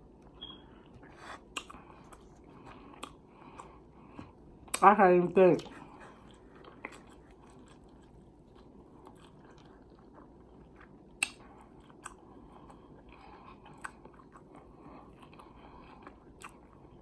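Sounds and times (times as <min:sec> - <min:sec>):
person chewing: 0:00.2 - 0:04.8, 0:05.6 - 0:17.0.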